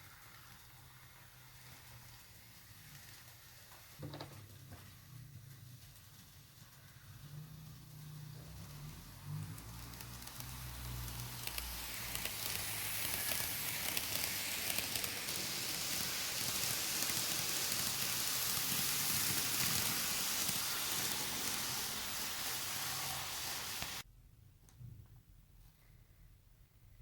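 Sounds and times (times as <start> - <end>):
model train wheels rattling: 0.0 - 24.0.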